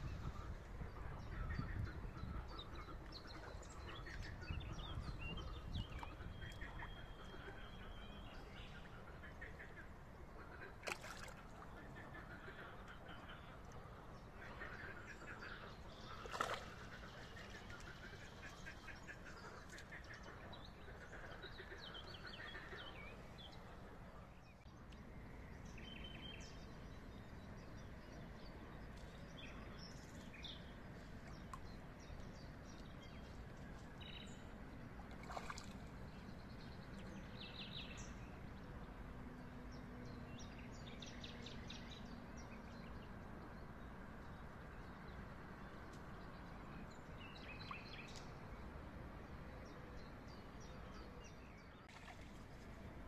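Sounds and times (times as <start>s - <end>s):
faint birdsong: 0.0s - 53.0s
low outdoor background: 0.0s - 53.0s.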